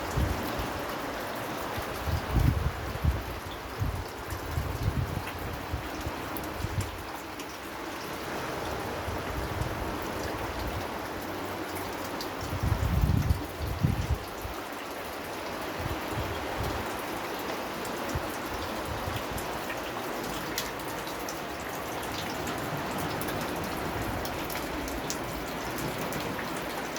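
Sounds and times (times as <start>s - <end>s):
rain hiss: 0.0s - 26.9s
raindrops ticking on a surface: 0.0s - 26.9s.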